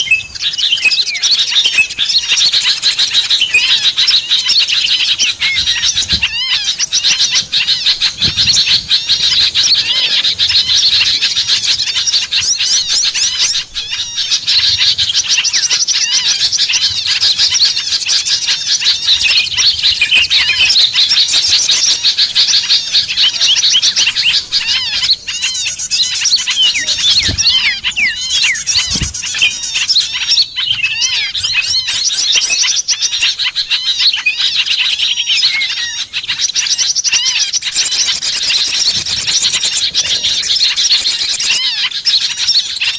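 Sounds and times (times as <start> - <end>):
small songbirds chirping: 0.0 - 42.9.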